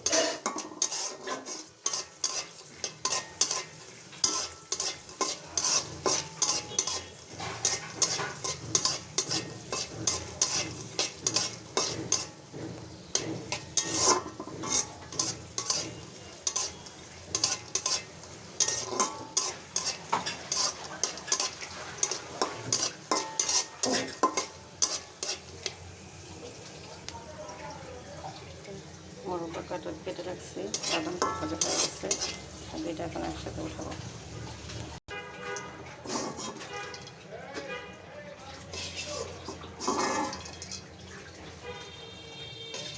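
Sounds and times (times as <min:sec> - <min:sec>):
spatula scraping a pan: 0:00.0 - 0:26.6, 0:29.4 - 0:42.9
nuts sizzling in oil: 0:00.0 - 0:37.3, 0:38.5 - 0:42.9.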